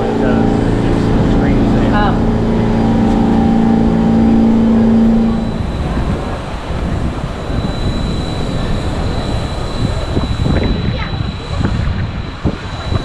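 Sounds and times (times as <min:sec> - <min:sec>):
street traffic rumbling: 0:00.0 - 0:13.0
subway train pitched hum: 0:00.0 - 0:13.0.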